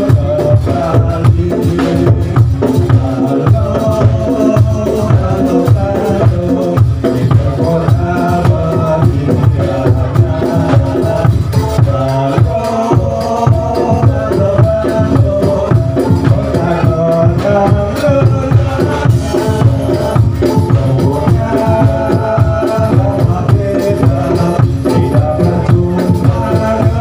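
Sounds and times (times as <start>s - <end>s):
driving drumming: 0.0s - 27.0s
held melody line: 0.0s - 27.0s
rattling percussion: 0.0s - 27.0s.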